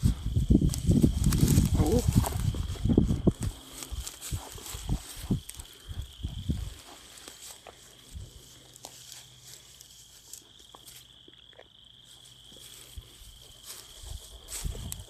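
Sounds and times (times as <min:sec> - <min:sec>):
light ticks and rustles: 0:00.6 - 0:15.0.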